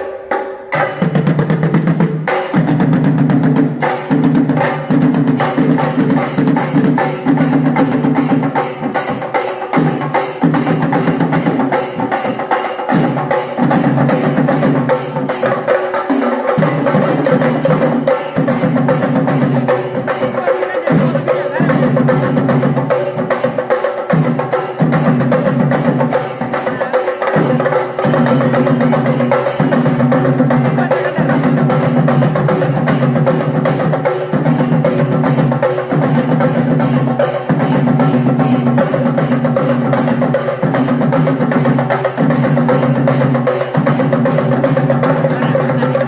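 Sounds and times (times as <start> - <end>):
fast dense drumming: 0.3 - 46.0.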